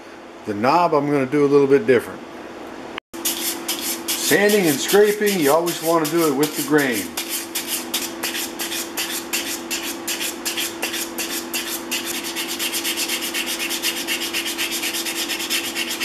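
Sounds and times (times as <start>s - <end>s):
sandpaper rubbing on wood: 3.2s - 16.0s.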